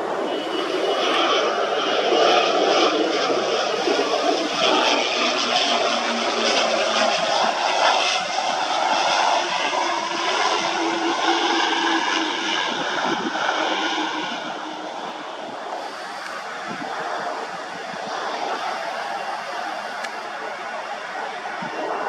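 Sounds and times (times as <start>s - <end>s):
turboprop engines running: 0.0s - 22.0s.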